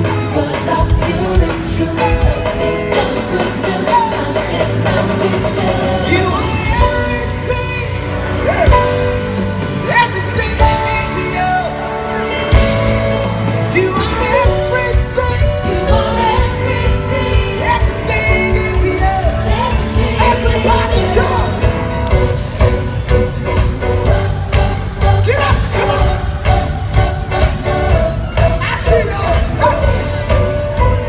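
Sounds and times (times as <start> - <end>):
gospel band playing: 0.0 - 31.0
steady drum beat: 0.0 - 31.0
sung vocals: 0.0 - 31.0.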